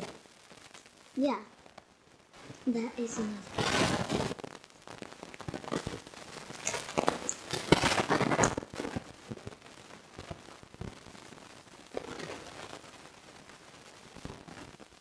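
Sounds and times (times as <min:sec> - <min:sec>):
crackling rustle: 0:00.0 - 0:15.0.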